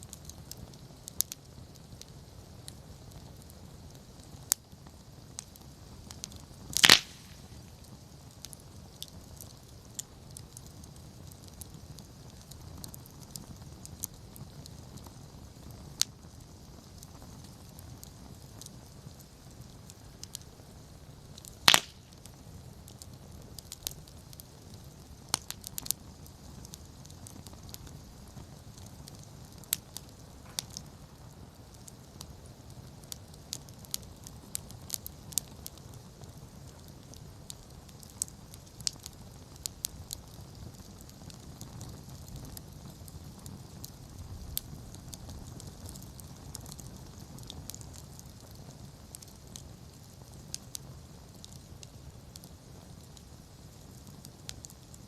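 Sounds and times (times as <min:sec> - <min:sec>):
campfire flames rumbling: 0:00.0 - 0:55.0
fire crackles and pops: 0:00.0 - 0:55.0.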